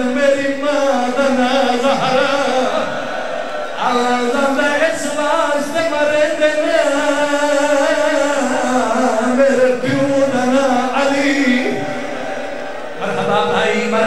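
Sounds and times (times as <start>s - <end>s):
man chanting a lament: 0.0s - 3.2s, 3.8s - 14.0s.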